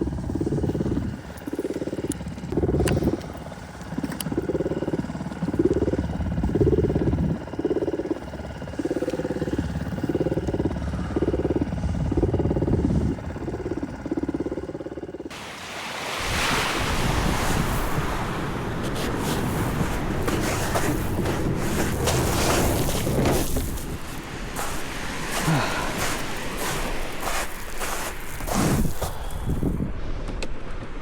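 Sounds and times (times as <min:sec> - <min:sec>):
outboard motor humming: 0:01.5 - 0:29.8.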